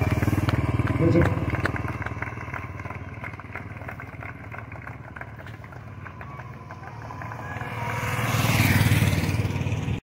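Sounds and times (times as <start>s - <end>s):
motorcycle engine passing by: 0.0s - 10.0s.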